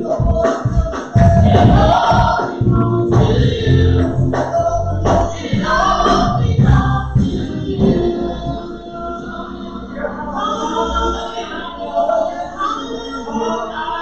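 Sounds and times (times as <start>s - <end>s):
gospel choir singing with band: 0.0s - 14.0s.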